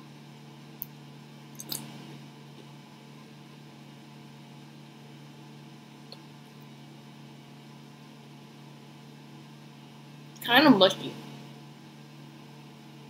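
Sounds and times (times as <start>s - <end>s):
low hum with faint hiss: 0.0s - 13.0s.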